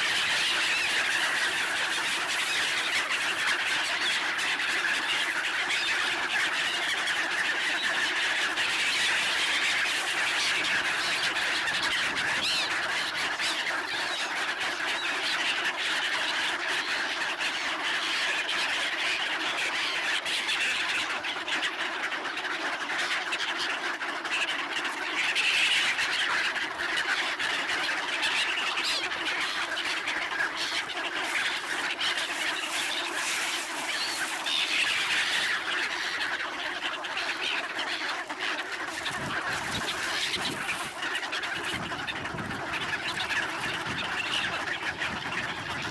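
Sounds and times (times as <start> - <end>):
flock of gulls squawking: 0.0 - 45.9.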